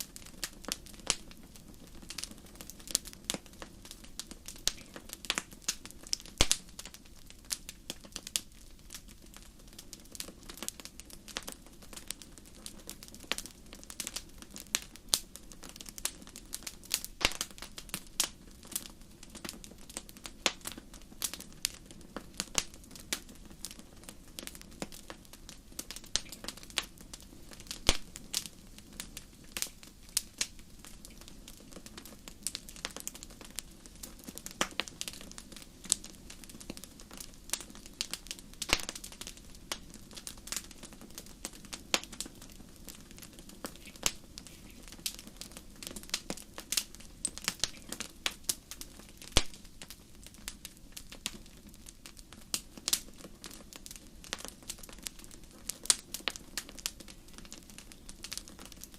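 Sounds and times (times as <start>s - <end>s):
fire crackling and popping: 0.0s - 58.9s
low rush of flames: 0.0s - 58.9s.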